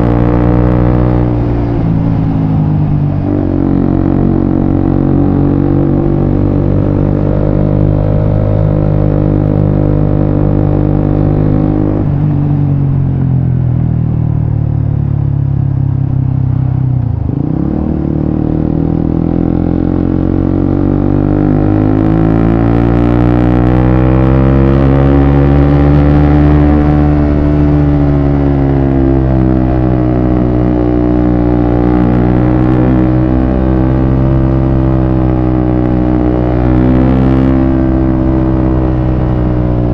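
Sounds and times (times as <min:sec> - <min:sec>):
motorcycle engine revving: 0:00.0 - 0:13.2, 0:15.4 - 0:39.9.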